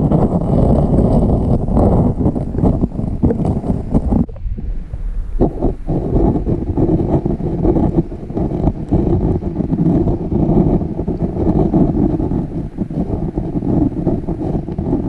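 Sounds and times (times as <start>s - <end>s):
muffled stream current rumble: 0.0s - 15.0s.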